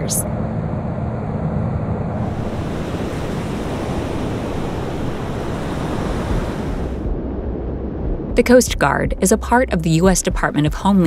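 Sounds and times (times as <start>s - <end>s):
wind and sea rushing: 0.0s - 9.6s
dull low rumble: 0.0s - 11.0s
wind buffeting microphone: 0.0s - 11.0s.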